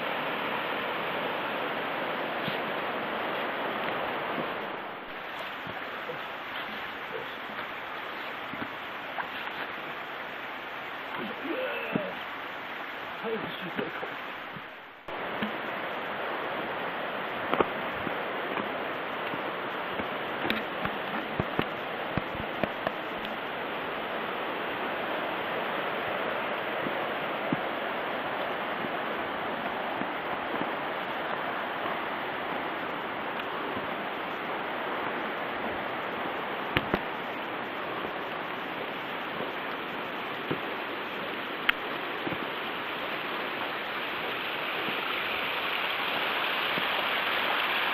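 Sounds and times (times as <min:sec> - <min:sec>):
stream rushing: 0:00.0 - 0:47.9.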